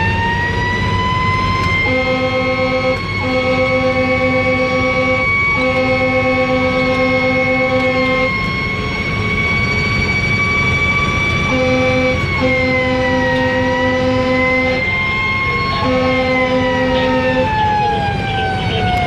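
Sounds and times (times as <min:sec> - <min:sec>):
fire engine siren wailing: 0:00.0 - 0:19.0
truck engine and road rumble: 0:00.0 - 0:19.0
air horn blasts: 0:01.3 - 0:19.0.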